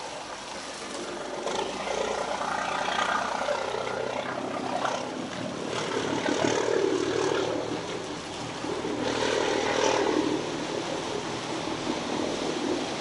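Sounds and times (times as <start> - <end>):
water rushing: 0.0 - 13.0
boat engine running: 0.3 - 13.0.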